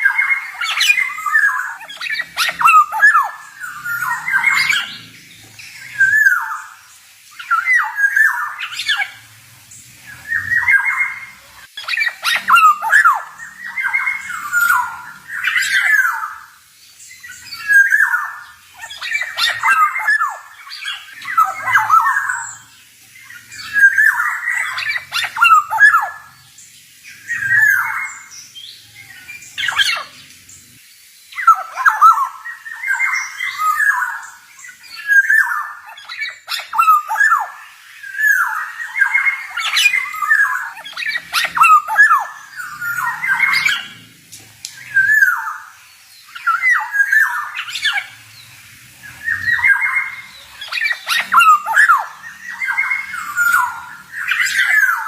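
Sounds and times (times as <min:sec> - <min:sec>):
bird whistled song: 0:00.0 - 0:09.3, 0:10.0 - 0:30.7, 0:31.3 - 0:55.0.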